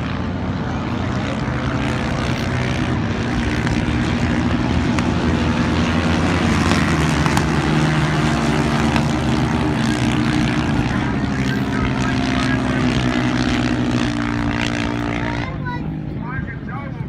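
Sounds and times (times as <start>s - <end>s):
distant quad bike engines droning: 0.0s - 17.0s.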